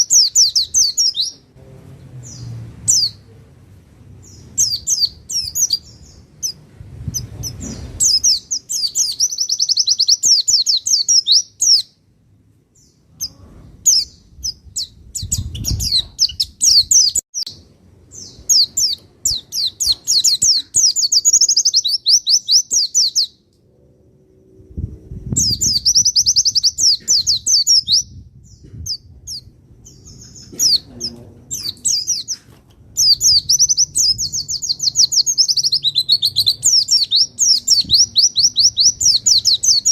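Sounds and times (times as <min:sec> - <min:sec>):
bird twittering trills: 0:00.0 - 0:01.5, 0:02.2 - 0:03.3, 0:04.2 - 0:12.0, 0:12.8 - 0:23.5, 0:25.2 - 0:39.9.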